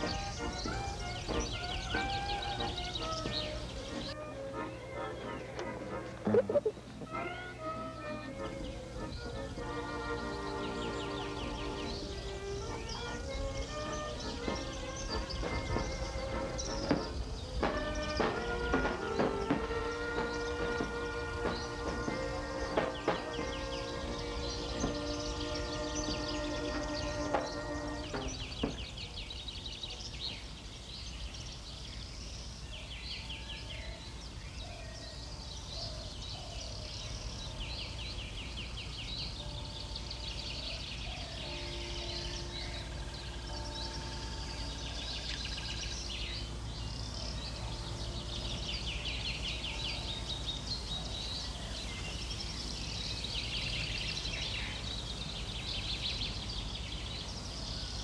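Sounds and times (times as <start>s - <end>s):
birds chirping and trilling: 0.0s - 58.0s
low whistled bird notes: 0.0s - 58.0s.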